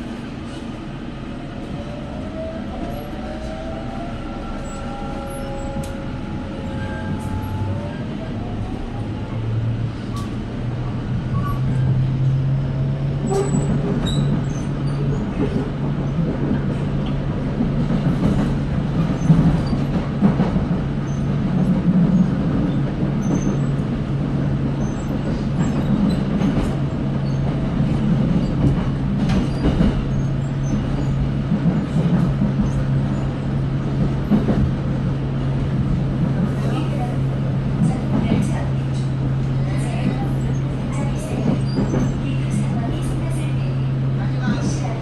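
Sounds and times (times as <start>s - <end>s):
train low hum: 0.0s - 45.0s
wheels rumbling on rails: 0.0s - 45.0s.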